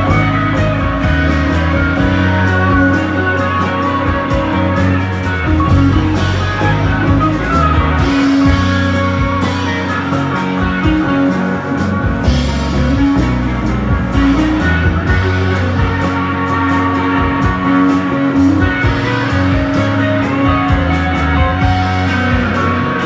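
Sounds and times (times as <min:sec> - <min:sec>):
drum kit: 0:00.0 - 0:23.0
electric bass: 0:00.0 - 0:23.0
electric guitar: 0:00.0 - 0:23.0.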